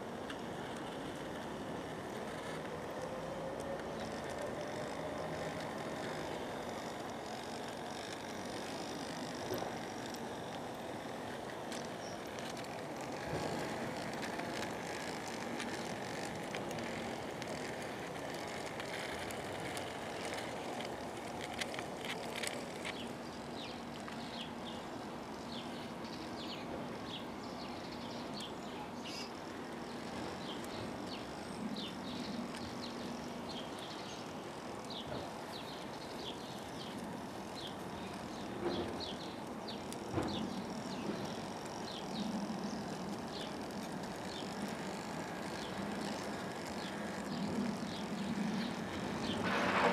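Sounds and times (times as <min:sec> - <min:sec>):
model train motor humming: 0:00.0 - 0:49.9
ticks and clicks from wheels: 0:00.0 - 0:49.9.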